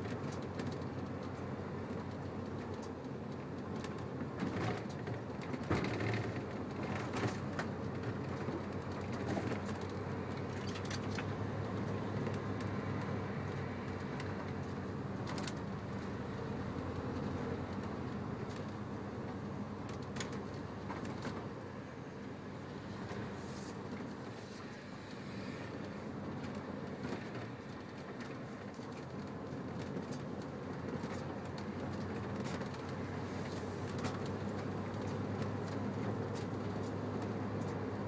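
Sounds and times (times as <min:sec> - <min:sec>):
vehicle engine and road noise: 0:00.0 - 0:38.0.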